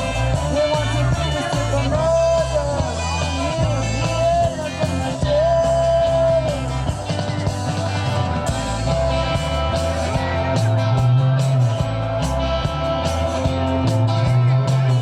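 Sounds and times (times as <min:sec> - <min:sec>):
heavy bass and drums: 0:00.0 - 0:15.0.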